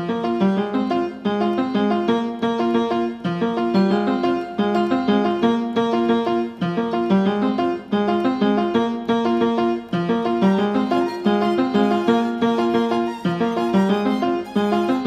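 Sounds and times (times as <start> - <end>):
keyboard melody: 0.0 - 15.0.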